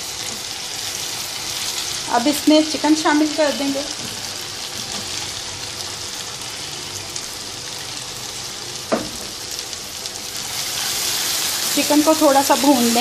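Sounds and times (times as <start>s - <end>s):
masala sizzling in oil: 0.0s - 13.0s.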